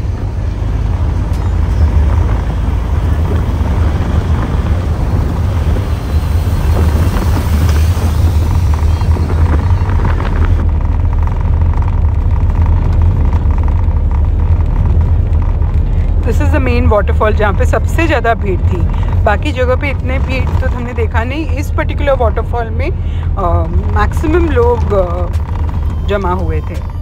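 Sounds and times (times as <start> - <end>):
car interior engine and road noise: 0.0 - 27.0.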